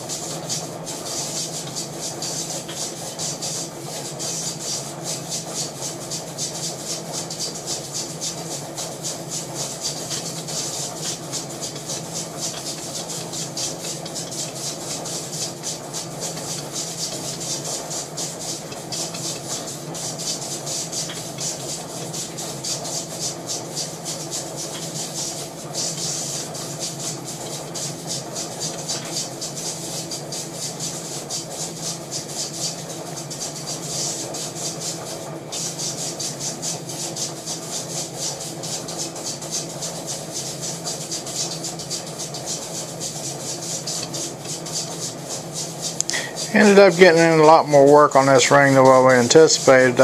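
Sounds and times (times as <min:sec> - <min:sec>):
machine hum: 0:00.0 - 0:50.0.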